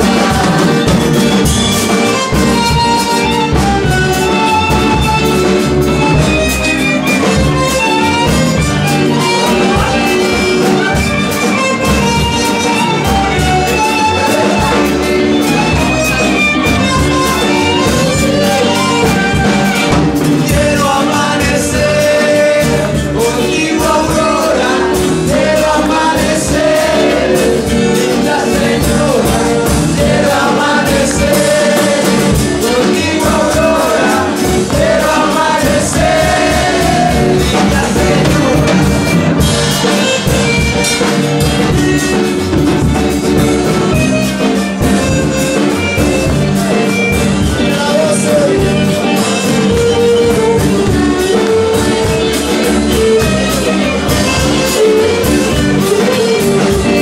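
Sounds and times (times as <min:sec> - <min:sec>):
live band playing rhythmic groove: 0:00.0 - 0:57.0.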